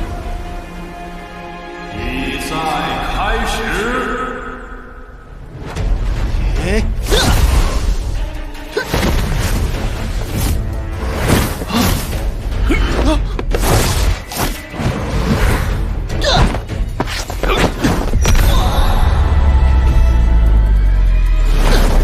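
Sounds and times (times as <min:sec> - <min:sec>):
dramatic background music: 0:00.0 - 0:22.0.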